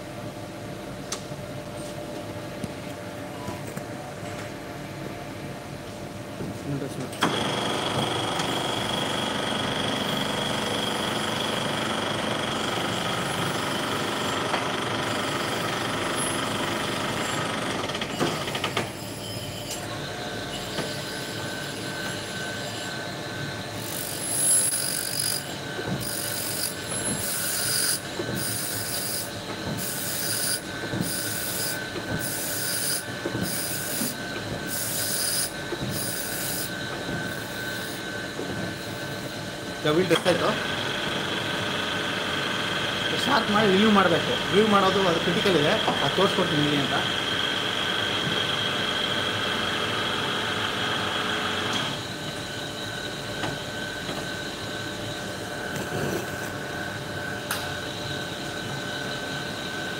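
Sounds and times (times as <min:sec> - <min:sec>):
grinder whine: 0:07.2 - 0:59.9.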